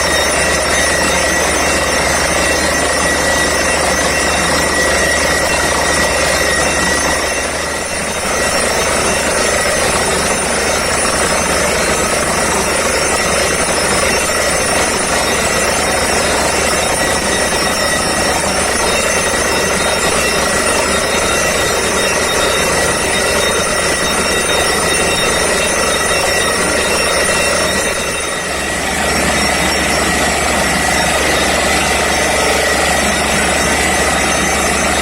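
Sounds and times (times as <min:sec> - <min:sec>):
drilling rig engine and compressor: 0:00.0 - 0:35.0
high whine: 0:00.0 - 0:35.0.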